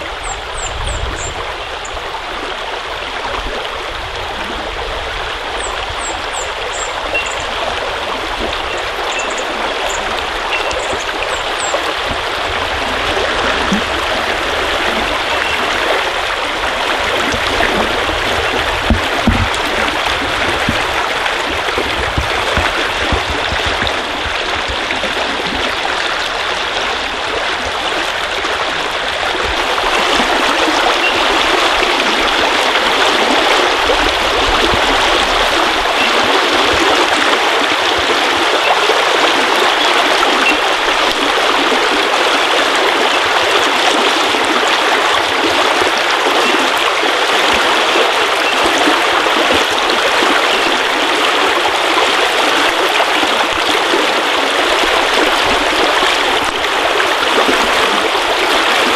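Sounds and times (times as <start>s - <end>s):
stream rippling over stones: 0.0s - 58.9s.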